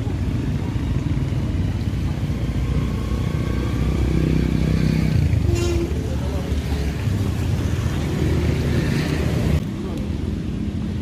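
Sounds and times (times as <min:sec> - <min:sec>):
motorcycle engine: 0:00.0 - 0:09.6
road traffic rumble: 0:00.0 - 0:11.0.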